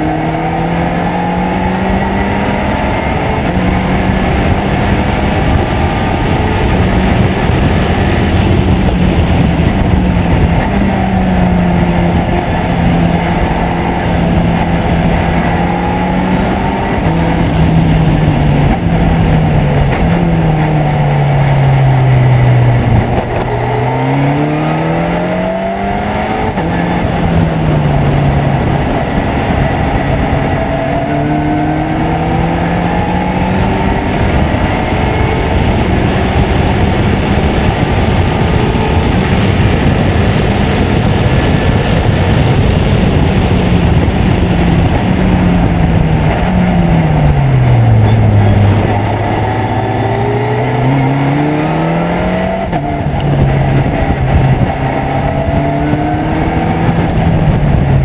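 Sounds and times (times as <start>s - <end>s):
race car engine running hard: 0.0s - 58.0s
wind and road noise: 0.0s - 58.0s.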